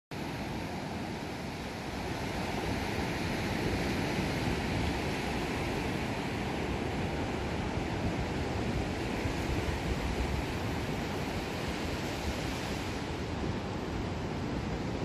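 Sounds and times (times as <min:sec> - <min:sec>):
surf breaking on beach: 0:00.2 - 0:15.0.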